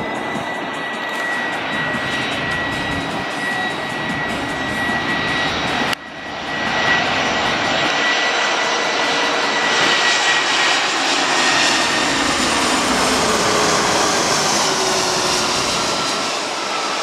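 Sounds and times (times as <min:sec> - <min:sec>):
high jet engine whine: 0:00.0 - 0:17.0
jet airliner roar overhead: 0:00.0 - 0:17.0.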